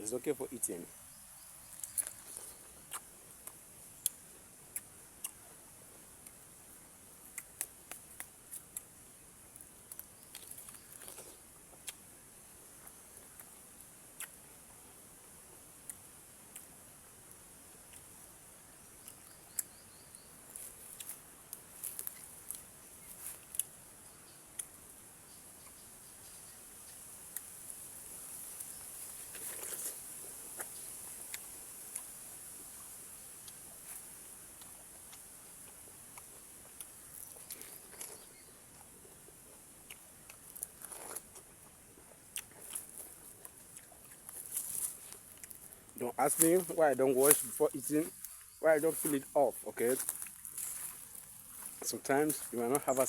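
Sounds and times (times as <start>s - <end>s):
insects chirring: 0.0s - 5.5s, 6.3s - 11.4s, 15.2s - 41.2s, 41.9s - 53.0s
person chewing crunchy fruit: 1.4s - 14.9s, 15.5s - 23.8s, 24.5s - 25.0s, 26.8s - 53.0s.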